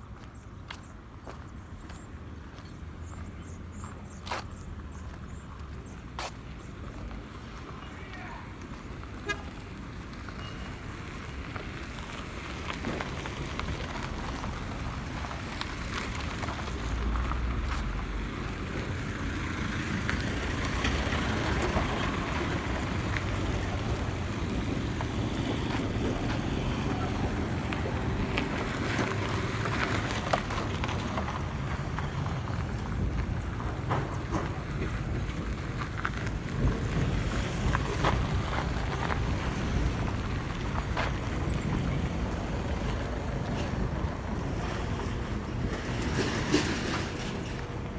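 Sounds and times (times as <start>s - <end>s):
road traffic rumble: 0.0s - 47.9s.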